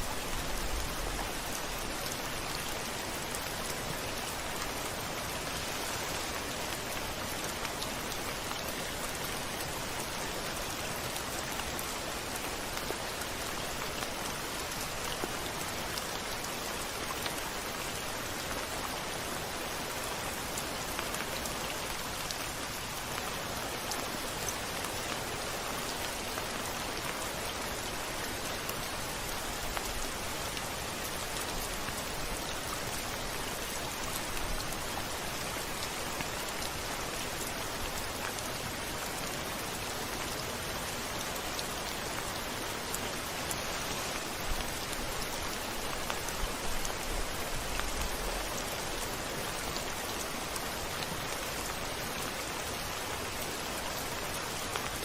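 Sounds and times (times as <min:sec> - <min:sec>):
rain pouring on a window: 0:00.0 - 0:55.0.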